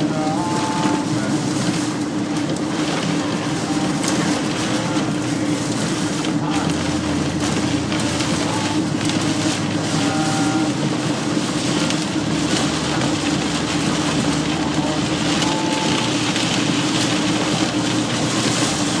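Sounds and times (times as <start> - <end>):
heavy rain hitting a vehicle: 0.0 - 19.0
vehicle low hum: 0.0 - 19.0.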